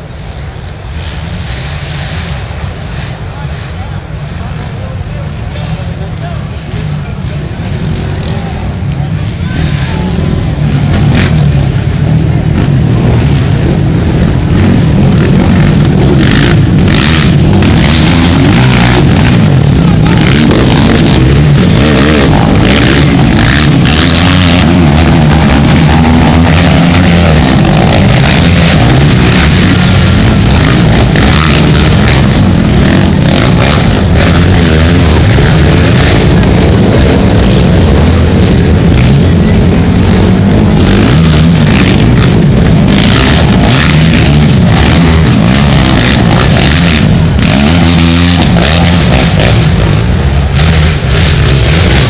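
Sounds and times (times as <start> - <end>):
racing atv engines revving: 0.0 - 52.0.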